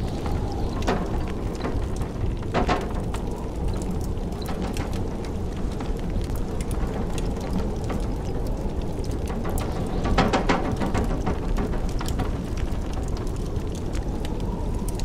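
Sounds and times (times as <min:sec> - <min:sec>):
blizzard wind rumbling: 0:00.0 - 0:15.0
wood fire crackling and popping: 0:00.0 - 0:15.0.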